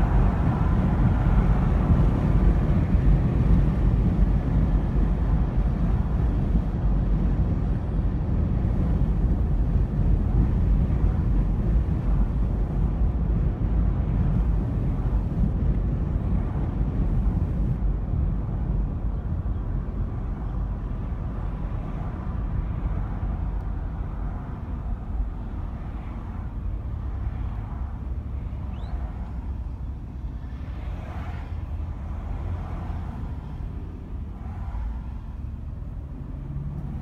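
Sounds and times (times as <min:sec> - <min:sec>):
car road noise: 0:00.0 - 0:37.0.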